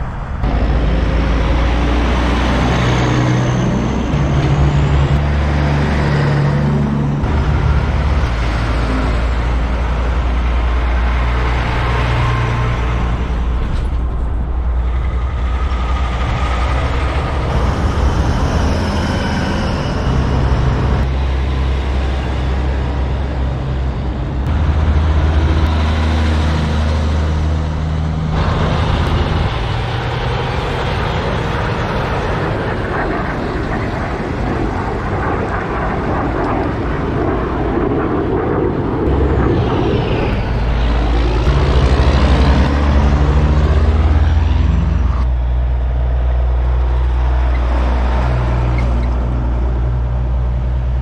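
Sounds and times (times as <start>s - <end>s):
trucks driving past: 0.0s - 35.6s, 39.0s - 51.0s.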